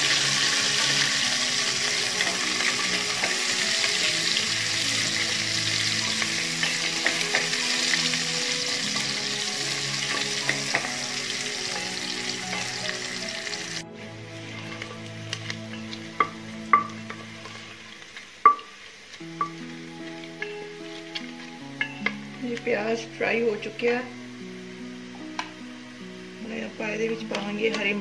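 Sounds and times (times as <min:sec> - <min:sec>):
onions sizzling in a pot: 0:00.0 - 0:28.0.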